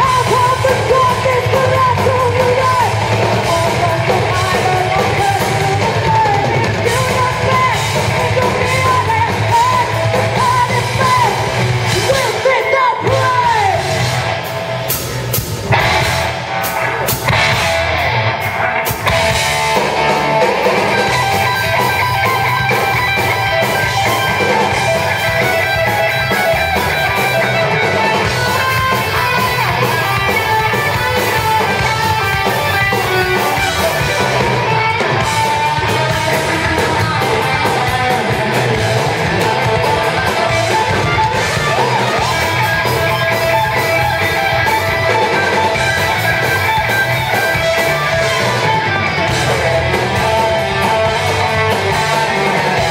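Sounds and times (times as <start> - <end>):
electric guitar: 0.0 - 52.9
heavy metal band playing: 0.0 - 52.9.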